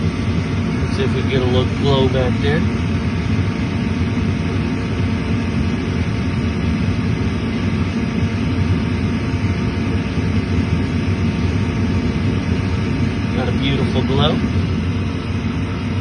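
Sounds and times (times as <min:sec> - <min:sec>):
furnace draft fan humming: 0:00.0 - 0:16.0.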